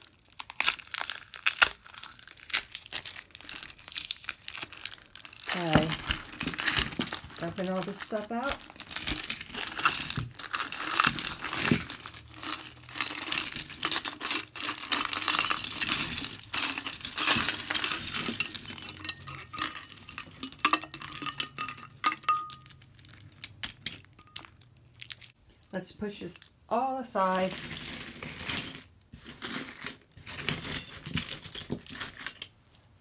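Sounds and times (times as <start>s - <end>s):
metal jewelry clinking and rattling: 3.1s - 25.3s, 27.6s - 32.5s.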